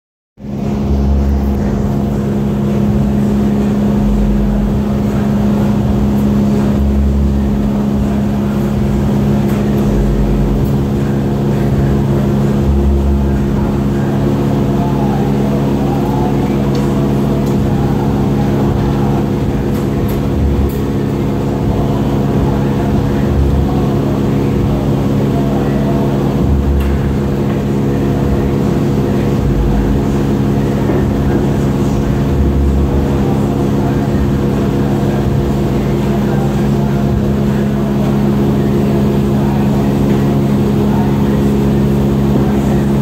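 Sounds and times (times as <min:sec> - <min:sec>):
loud machine drone: 0:00.4 - 0:43.0
low throb: 0:00.4 - 0:43.0.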